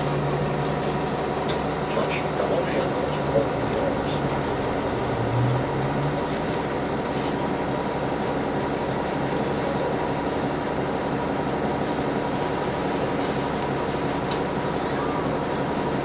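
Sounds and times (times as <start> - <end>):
bus engine and drivetrain: 0.0 - 16.0.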